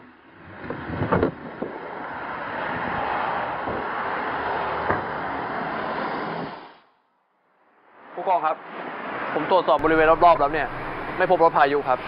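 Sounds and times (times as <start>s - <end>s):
rushing road noise: 0.0s - 7.1s, 7.7s - 12.0s.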